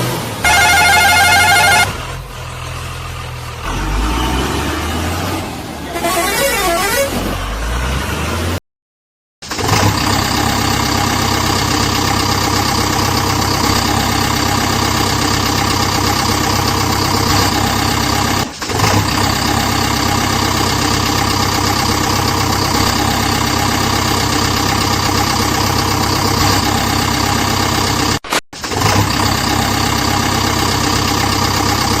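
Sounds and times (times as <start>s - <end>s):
tractor engine running: 0.0s - 4.5s, 9.4s - 32.0s.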